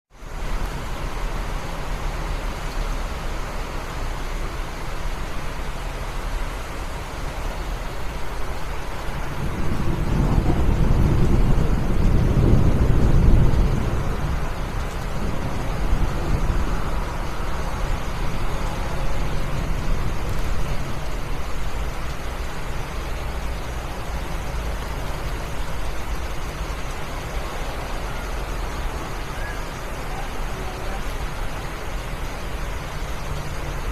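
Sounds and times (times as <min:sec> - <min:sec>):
steady rain falling: 0:00.1 - 0:33.9
road traffic rumble: 0:00.2 - 0:33.9.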